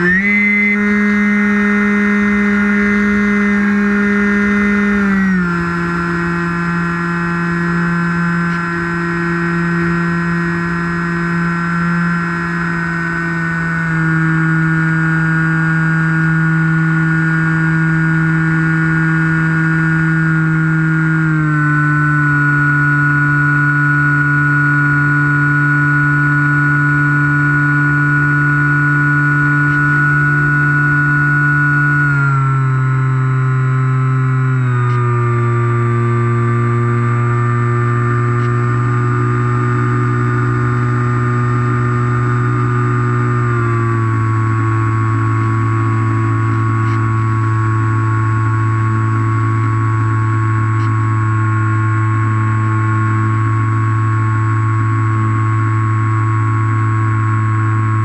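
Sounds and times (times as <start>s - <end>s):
model plane motor whine: 0.0s - 58.0s.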